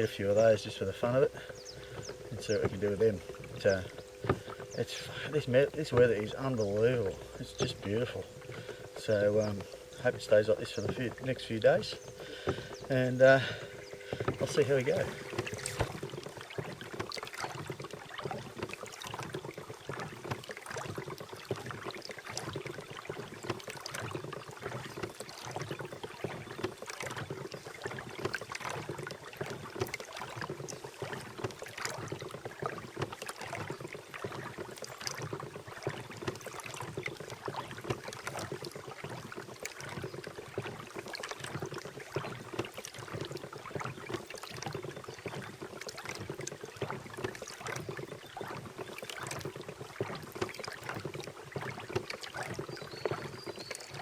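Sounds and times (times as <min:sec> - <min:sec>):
water splashing against boat hull: 0:00.0 - 0:54.0.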